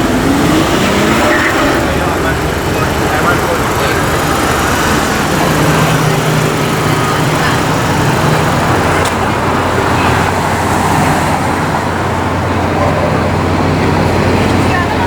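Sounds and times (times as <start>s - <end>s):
low engine hum: 0.0s - 15.0s
passing vehicles: 0.0s - 15.0s.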